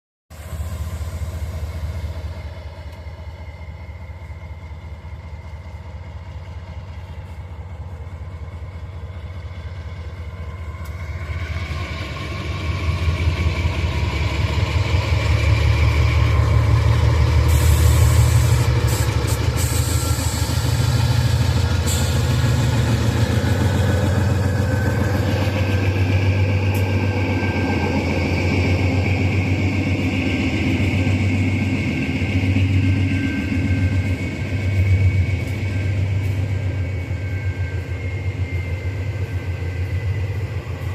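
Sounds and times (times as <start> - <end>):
diesel locomotive engine drone: 0.3 - 40.9
train rolling noise: 0.3 - 40.9.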